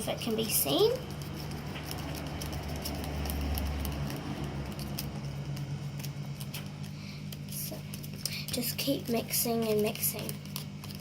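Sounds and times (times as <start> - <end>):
slime stirred in a bowl: 0.0 - 11.0
steady low hum: 0.0 - 11.0.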